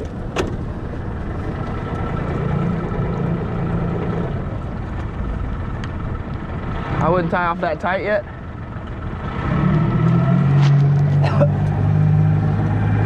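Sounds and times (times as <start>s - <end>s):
boat engine running at low revs: 0.0s - 13.0s.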